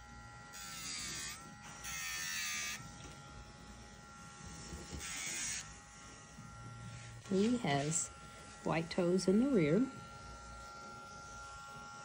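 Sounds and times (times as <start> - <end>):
rotary nail grinder whining: 0.0 - 12.0.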